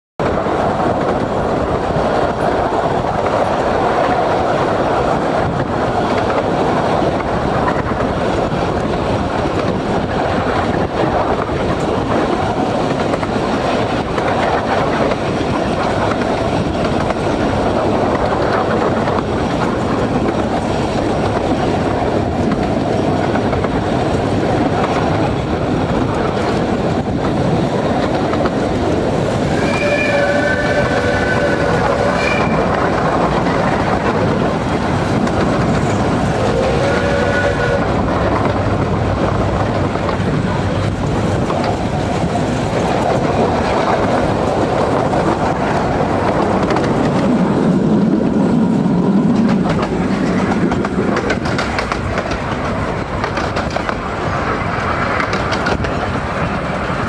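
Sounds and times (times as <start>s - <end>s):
train wheels rumbling and clattering: 0.2s - 57.0s.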